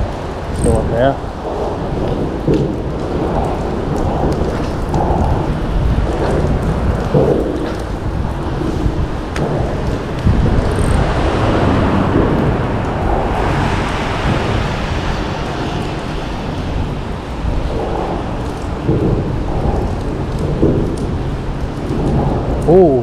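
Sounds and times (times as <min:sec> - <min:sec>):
rain falling: 0:00.0 - 0:23.0
wind buffeting the microphone: 0:00.0 - 0:23.0.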